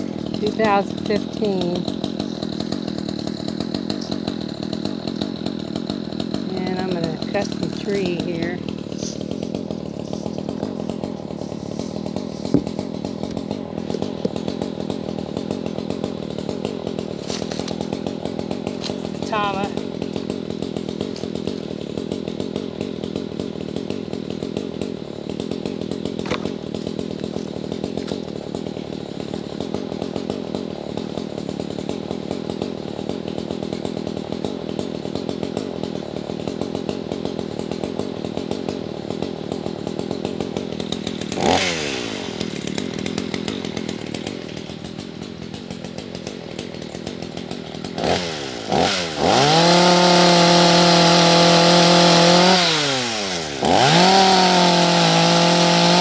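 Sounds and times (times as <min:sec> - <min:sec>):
chainsaw engine idling and revving: 0:00.0 - 0:56.0.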